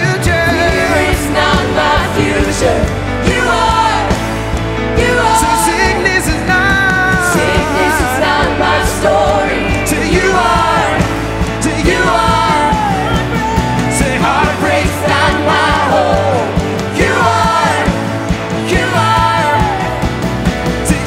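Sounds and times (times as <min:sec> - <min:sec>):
live band playing: 0:00.0 - 0:21.0
person singing lead vocals: 0:00.0 - 0:21.0.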